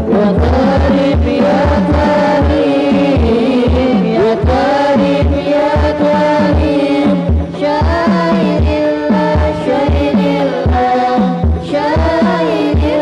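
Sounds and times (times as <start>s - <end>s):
hand frame drums: 0.0s - 13.0s
voices singing: 0.0s - 13.0s.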